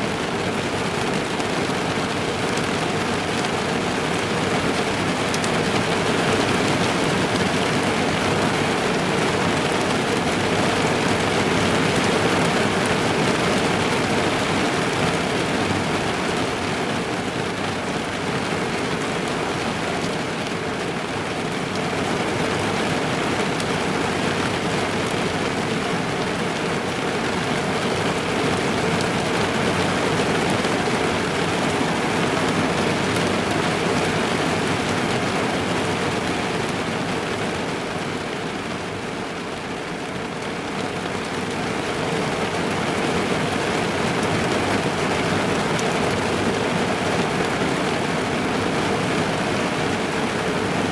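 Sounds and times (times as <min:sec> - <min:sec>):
rain drumming on car roof: 0:00.0 - 0:50.9.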